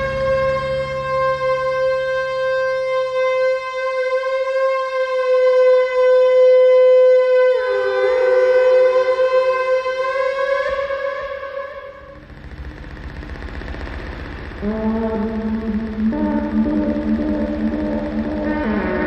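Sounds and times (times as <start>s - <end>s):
low hum: 0.0s - 4.4s, 7.6s - 19.0s
electronic drone: 0.0s - 19.0s
lower note gliding down: 0.0s - 19.0s.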